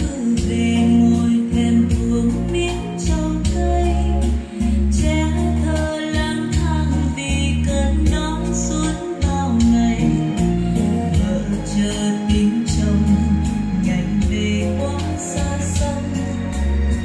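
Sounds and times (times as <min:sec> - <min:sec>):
heavy pulsing bass line: 0:00.0 - 0:17.0
song with singing: 0:00.0 - 0:17.0.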